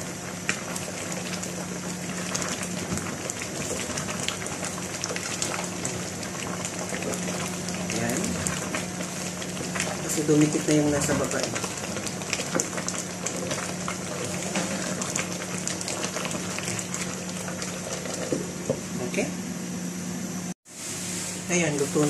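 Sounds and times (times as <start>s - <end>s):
stew simmering with small pops: 0.0s - 18.9s
wooden spatula stirring in pot: 0.0s - 19.0s.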